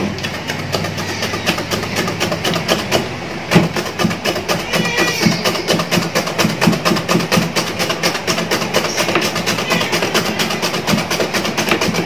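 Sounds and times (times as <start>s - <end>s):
potato scraping over slicer blade: 0.0s - 12.0s.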